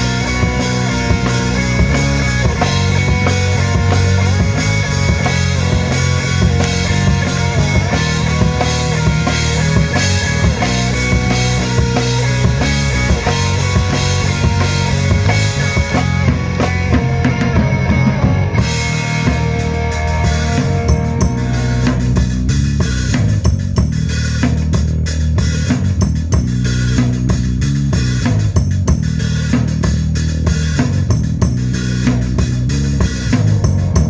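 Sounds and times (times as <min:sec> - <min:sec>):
bass drum and snare beating: 0:00.0 - 0:34.0
rock band playing: 0:00.0 - 0:34.0.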